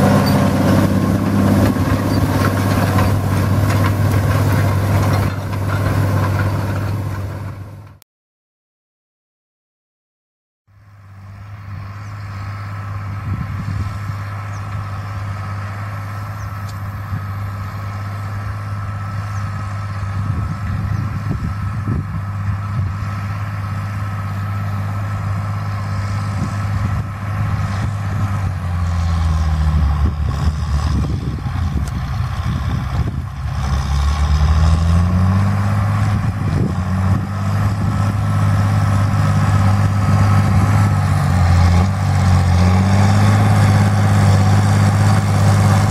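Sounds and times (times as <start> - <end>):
tractor diesel engine under load: 0.0 - 8.0, 10.8 - 45.9.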